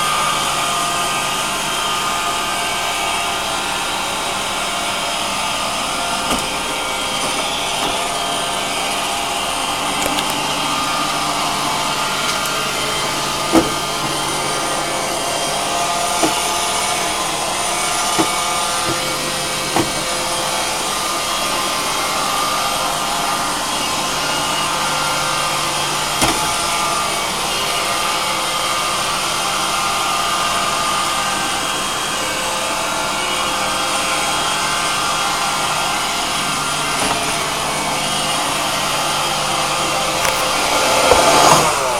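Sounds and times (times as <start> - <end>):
robot vacuum whirring: 0.0 - 41.9.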